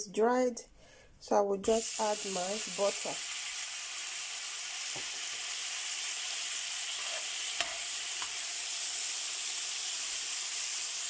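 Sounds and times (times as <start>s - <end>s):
butter sizzling in frying pan: 1.7s - 11.0s.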